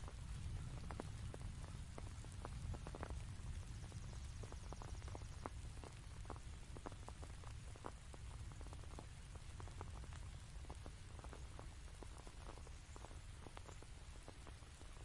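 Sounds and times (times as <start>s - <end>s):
raindrops ticking: 0.0s - 15.0s
steady low rumble: 0.0s - 15.0s.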